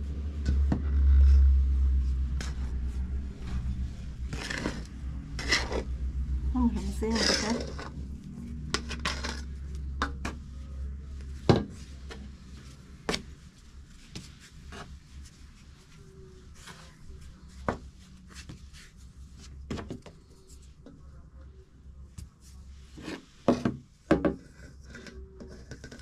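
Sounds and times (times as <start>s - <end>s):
dough rubbing: 0.0s - 21.3s
low steady hum: 0.0s - 26.0s.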